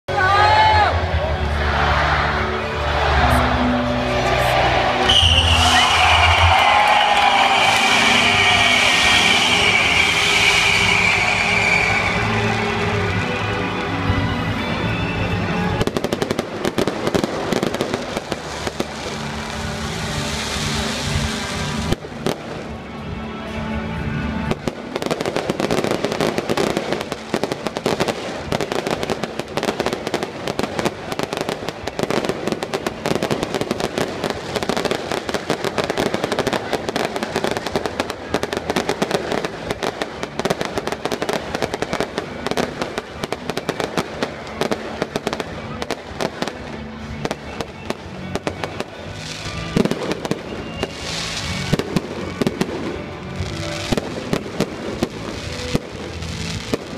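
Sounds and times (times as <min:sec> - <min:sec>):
fireworks bursting and crackling: 0:04.9 - 0:22.8, 0:24.4 - 0:56.9.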